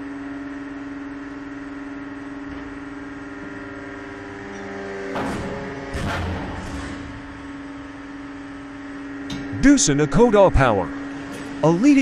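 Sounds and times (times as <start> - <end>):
steady droning hum: 0.0 - 12.0.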